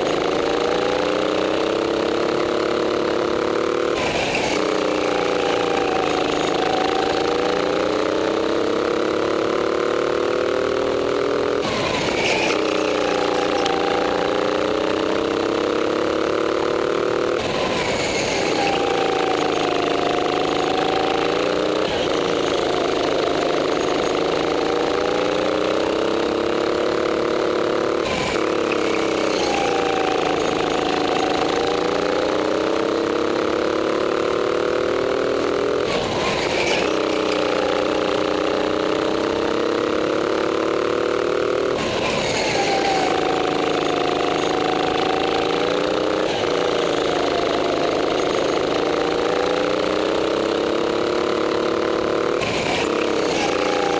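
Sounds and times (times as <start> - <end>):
go-kart engine revving: 0.0 - 53.9.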